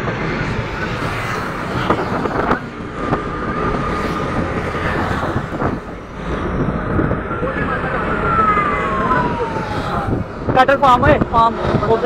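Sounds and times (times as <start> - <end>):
moving vehicle: 0.0 - 12.0
traffic rumble: 0.0 - 12.0.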